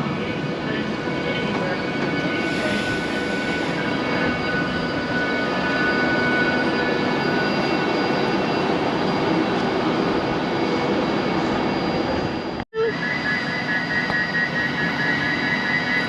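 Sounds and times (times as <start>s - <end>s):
passenger train rumbling past: 0.0s - 16.0s.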